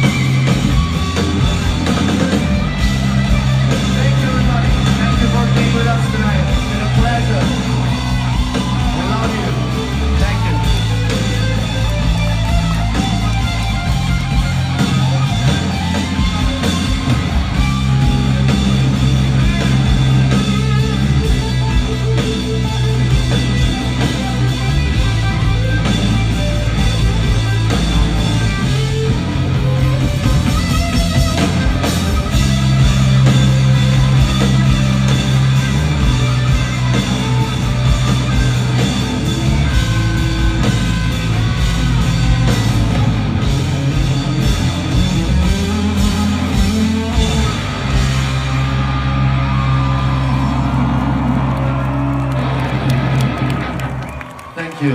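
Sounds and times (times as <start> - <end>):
loud rock band playing: 0.0 - 54.9.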